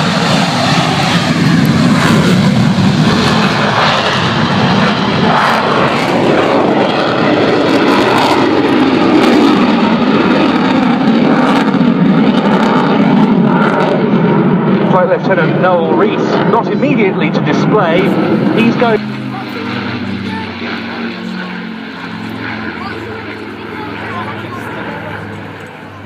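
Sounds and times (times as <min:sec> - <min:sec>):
jet engines in flight: 0:00.0 - 0:26.0.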